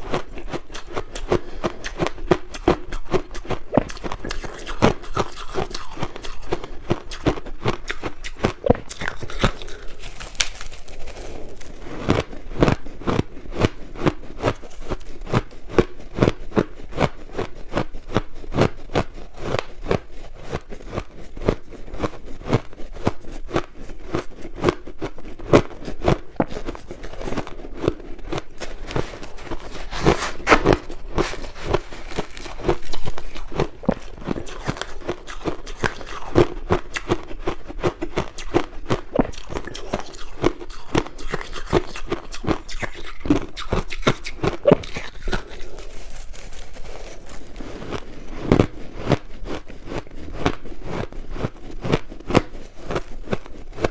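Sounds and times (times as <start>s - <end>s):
crunching of chewed ice: 0.0s - 53.9s.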